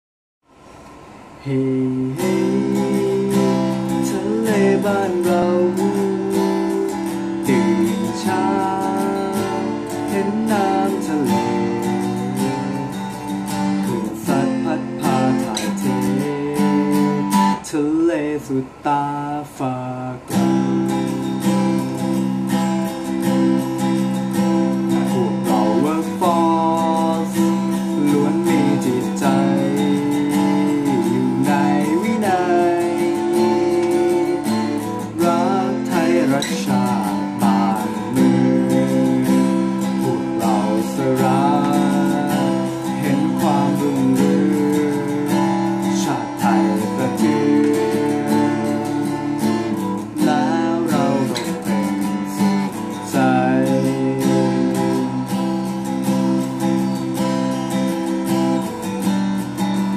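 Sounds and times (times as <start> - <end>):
acoustic guitar strumming: 0.4 - 59.9
man singing: 1.4 - 57.3.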